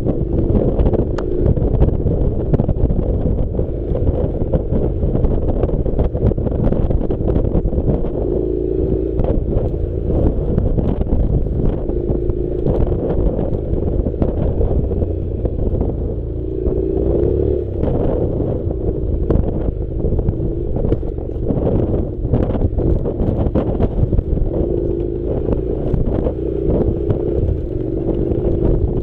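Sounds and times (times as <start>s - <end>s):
motorcycle engine running: 0.0s - 29.0s
wind rumble on microphone: 0.0s - 29.0s.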